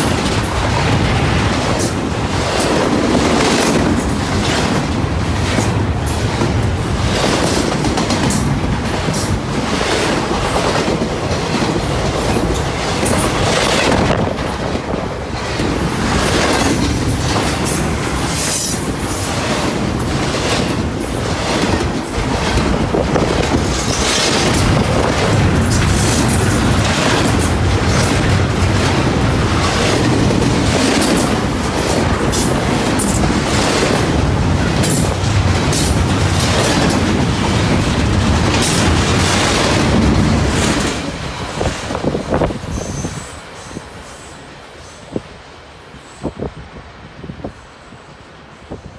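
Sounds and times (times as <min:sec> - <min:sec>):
train wheels clacking on rails: 0:00.0 - 0:46.3.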